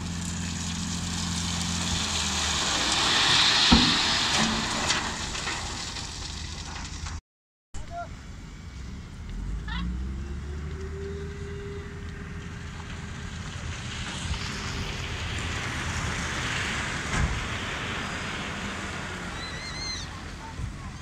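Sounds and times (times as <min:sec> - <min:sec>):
car passing on road: 0:00.0 - 0:06.6, 0:08.4 - 0:20.7
low rumble of traffic: 0:00.0 - 0:07.2, 0:07.8 - 0:21.0.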